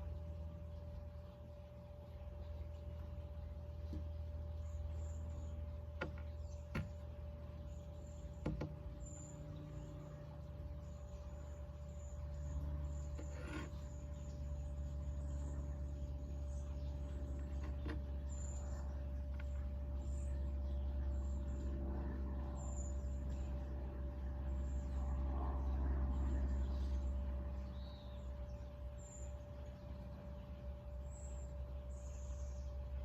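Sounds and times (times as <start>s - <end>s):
constant higher tone: 0.0s - 33.0s
low machine hum: 0.0s - 33.0s.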